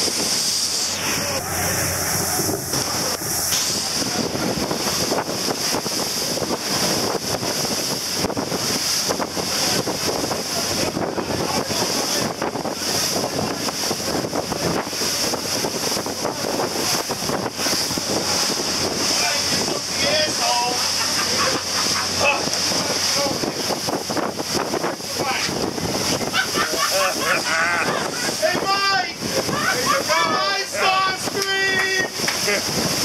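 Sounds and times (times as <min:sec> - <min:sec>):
rushing water and spray: 0:00.0 - 0:33.0
wind buffeting microphone: 0:00.0 - 0:33.0.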